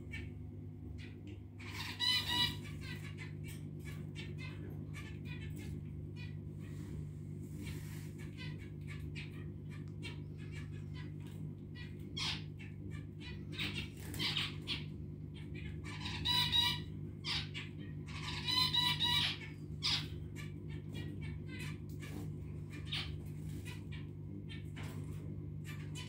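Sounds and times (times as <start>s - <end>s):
steady low hum: 0.0s - 26.0s
finches chirping: 1.0s - 6.9s, 7.5s - 24.8s.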